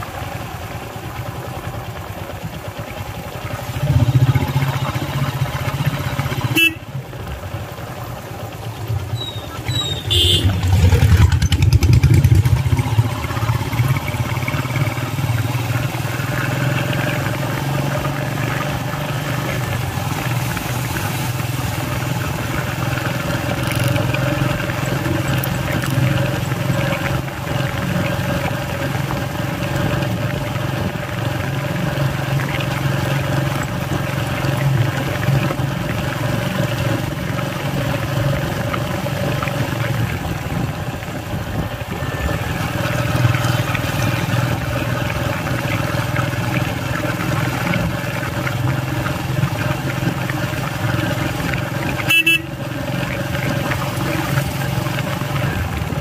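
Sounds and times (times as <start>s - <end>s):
motorcycles and cars passing: 0.0s - 56.0s
vehicle engine and road noise: 0.0s - 56.0s.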